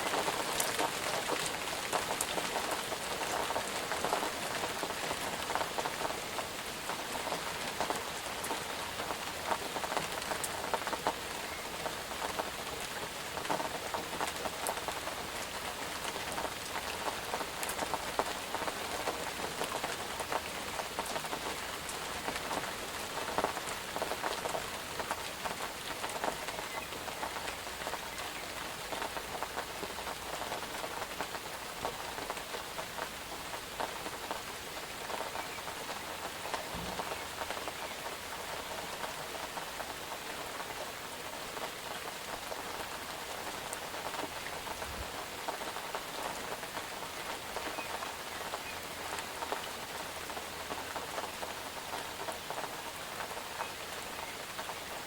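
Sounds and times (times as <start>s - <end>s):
raindrops ticking and splattering: 0.0s - 55.0s
steady rain: 0.0s - 55.0s.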